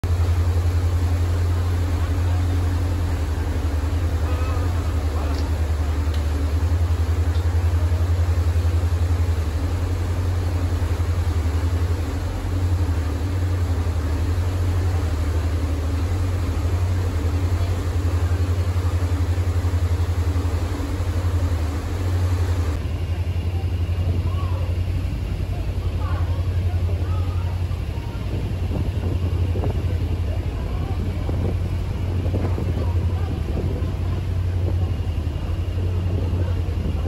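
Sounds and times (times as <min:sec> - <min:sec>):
ship engines droning: 0:00.0 - 0:37.0
water wake rushing: 0:00.0 - 0:37.0.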